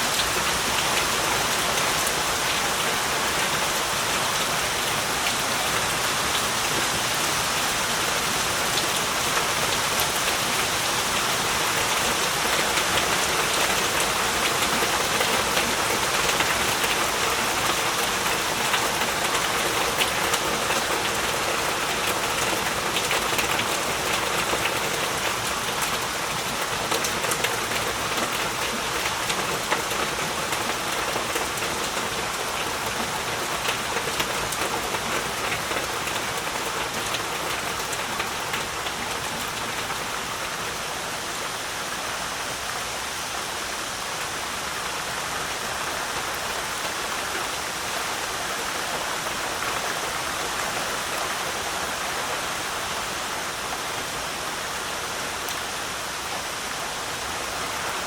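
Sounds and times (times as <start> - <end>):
heavy rain falling: 0.0 - 58.0
raindrops pattering on surfaces: 0.0 - 58.0.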